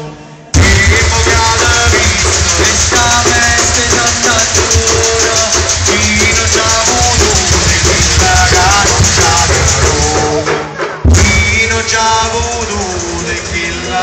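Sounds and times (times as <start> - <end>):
singing: 0.0 - 14.0
wooden barrels beaten as drums: 0.6 - 14.0.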